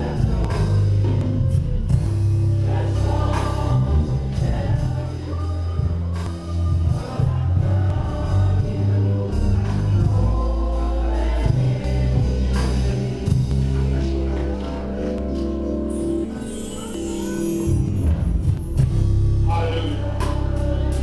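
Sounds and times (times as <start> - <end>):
moving bass line: 0.0 - 16.3, 17.7 - 21.0
gospel church band with singing: 0.0 - 21.0.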